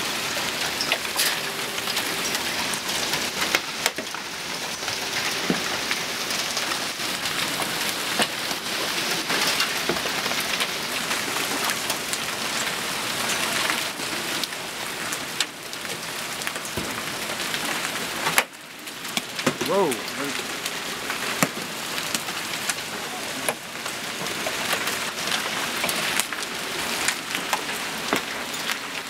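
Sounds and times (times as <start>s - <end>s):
hail clattering on surfaces: 0.0s - 29.0s.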